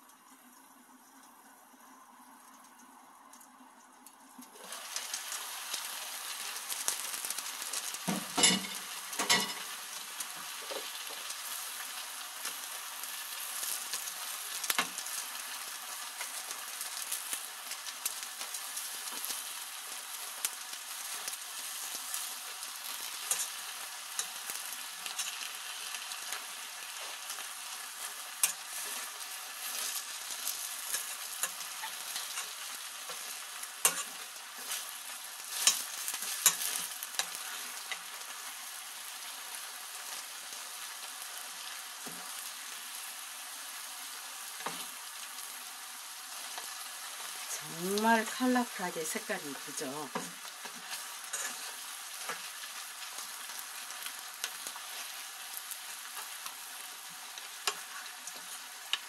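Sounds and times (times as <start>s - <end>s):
food sizzling in a frying pan: 0.0s - 59.0s.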